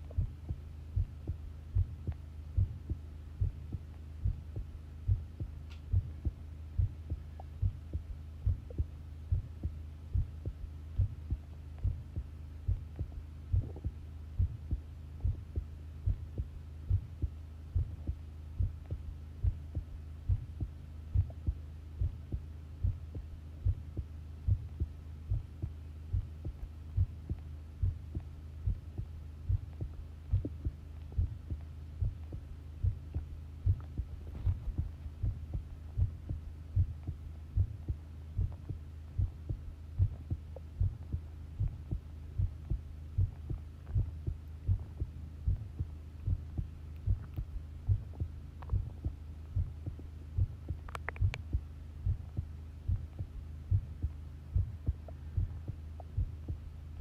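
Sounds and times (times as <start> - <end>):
heartbeat thuds: 0.0 - 57.0
steady low hum: 0.0 - 57.0.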